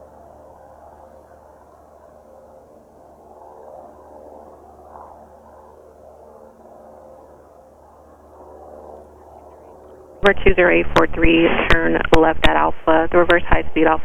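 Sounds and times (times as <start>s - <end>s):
distant light aircraft engine: 0.0s - 14.0s.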